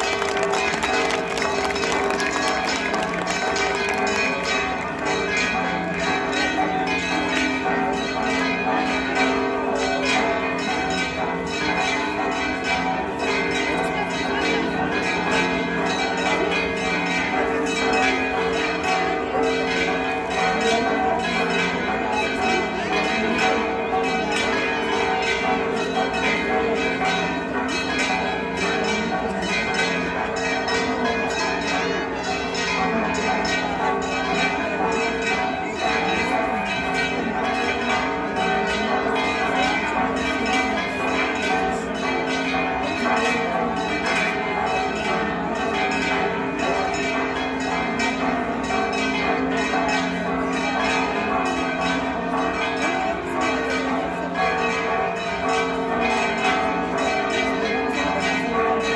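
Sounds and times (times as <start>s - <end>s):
church bells pealing: 0.0s - 58.9s.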